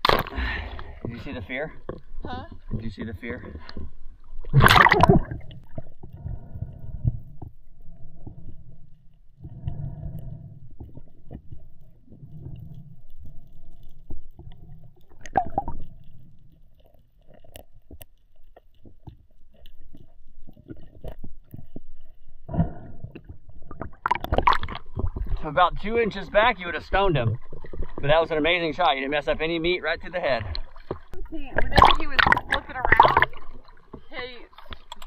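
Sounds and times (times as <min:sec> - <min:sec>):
underwater rumbling water: 0:00.0 - 0:35.0.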